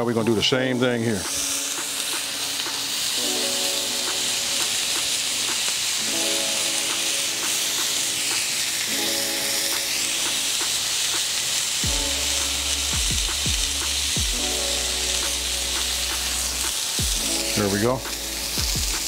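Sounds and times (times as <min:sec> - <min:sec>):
background music with repeating chords: 0:00.0 - 0:10.7, 0:11.8 - 0:19.0
beef patty sizzling on griddle: 0:01.1 - 0:19.0.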